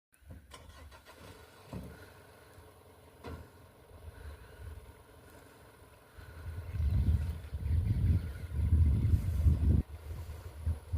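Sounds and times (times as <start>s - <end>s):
diesel engine idling: 0.2s - 10.9s.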